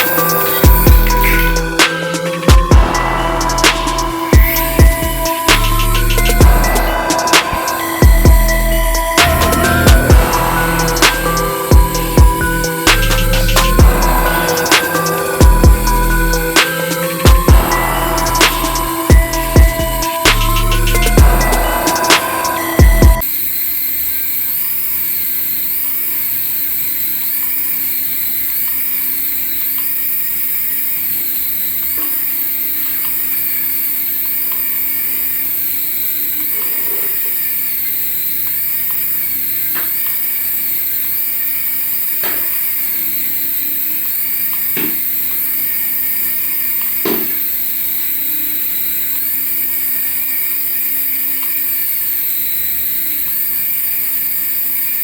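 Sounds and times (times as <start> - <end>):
small electric motor whine: 0.0 - 55.0.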